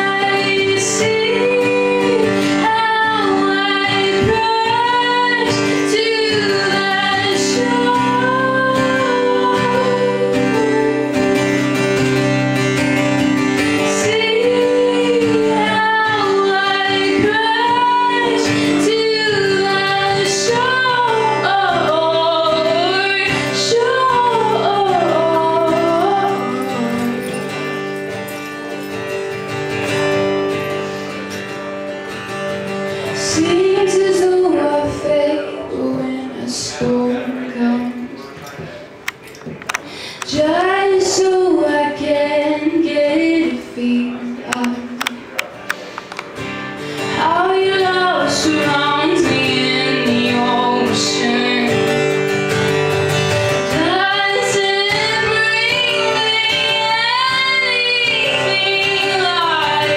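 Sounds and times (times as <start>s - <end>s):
woman singing: 0.0s - 27.8s, 33.0s - 38.2s, 40.2s - 45.2s, 47.0s - 59.9s
strummed acoustic guitar: 0.0s - 59.9s.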